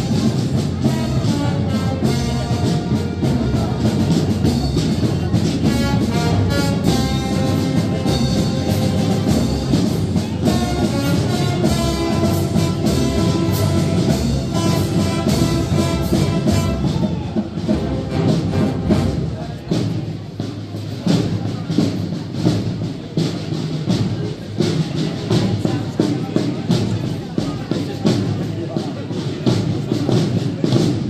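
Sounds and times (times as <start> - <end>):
brass band with drums playing: 0.0 - 31.0.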